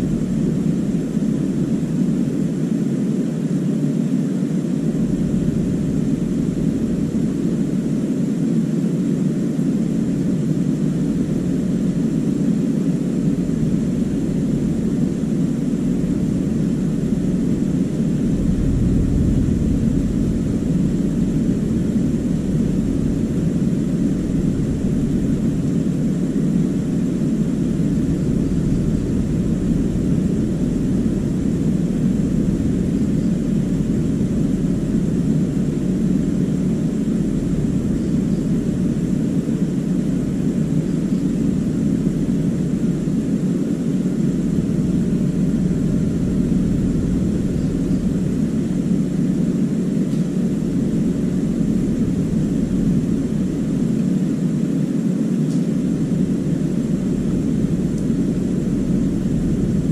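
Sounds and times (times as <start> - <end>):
machine droning: 0.0 - 59.9.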